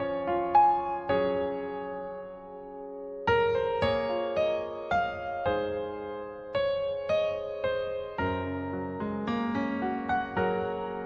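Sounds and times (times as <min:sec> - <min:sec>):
slow soft piano music: 0:00.0 - 0:11.0.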